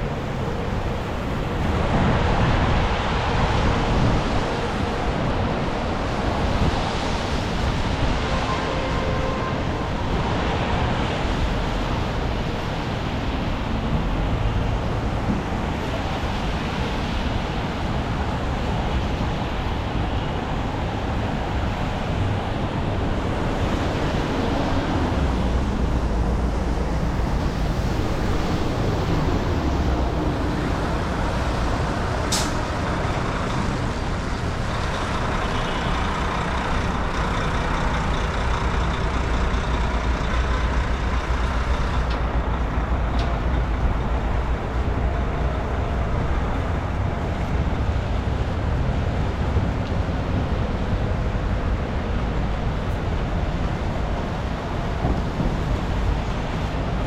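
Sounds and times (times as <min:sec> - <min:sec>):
traffic engines rumbling: 0:00.0 - 0:57.0
tyres on wet pavement: 0:00.0 - 0:57.0.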